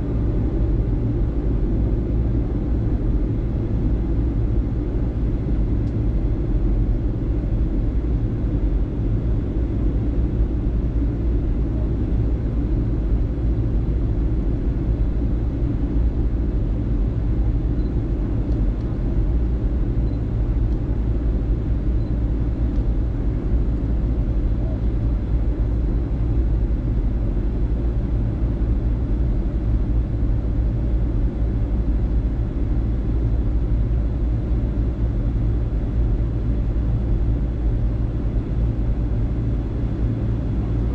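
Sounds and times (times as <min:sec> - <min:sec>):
airplane engine and airflow rumble: 0:00.0 - 0:40.9.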